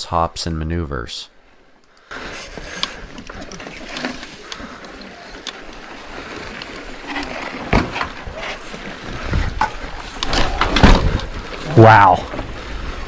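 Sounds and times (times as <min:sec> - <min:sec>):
bike tyre noise: 0:02.0 - 0:13.0
bike rattling: 0:02.1 - 0:13.0.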